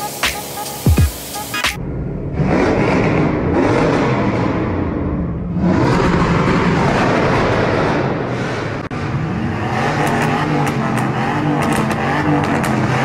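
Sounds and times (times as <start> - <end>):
engines revving in a tunnel: 1.2 - 13.0
road and wind noise: 1.8 - 13.0.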